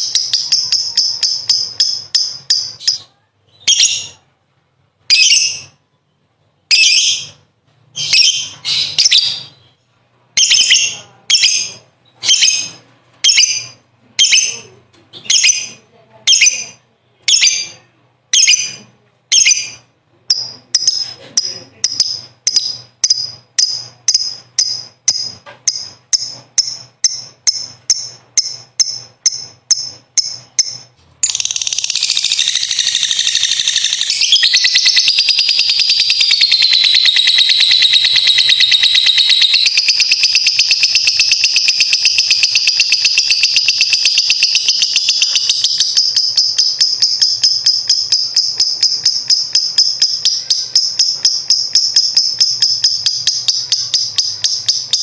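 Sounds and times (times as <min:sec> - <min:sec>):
rapid chattering bird trill: 0:00.0 - 0:04.2, 0:10.4 - 0:55.0
lovebird chirping: 0:00.0 - 0:04.3, 0:05.0 - 0:55.0.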